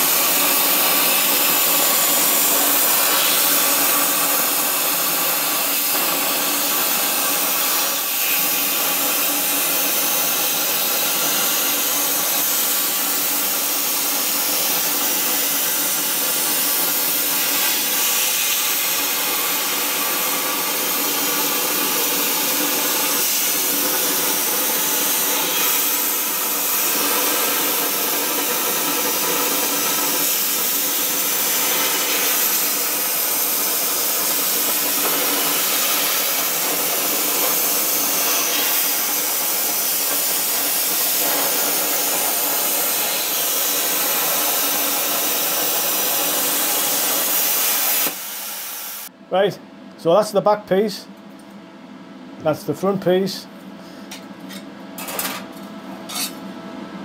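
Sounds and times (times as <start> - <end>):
plasma arc hissing: 0.0 - 49.1.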